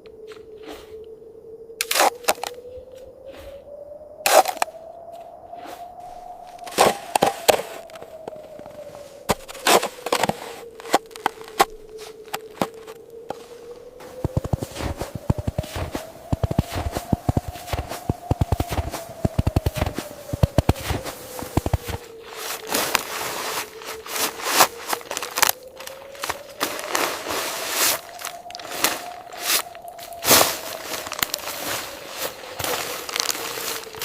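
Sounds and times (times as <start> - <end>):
footsteps crunching on snow: 5.2 - 34.0
tent fabric rustling and crackling: 5.7 - 34.0.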